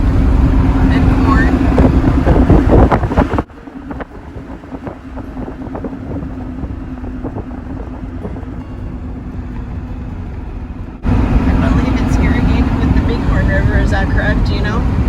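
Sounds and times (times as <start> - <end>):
engine and road drone: 0.0 - 15.0
loud wind rush: 0.0 - 15.0
low hum: 0.0 - 15.0.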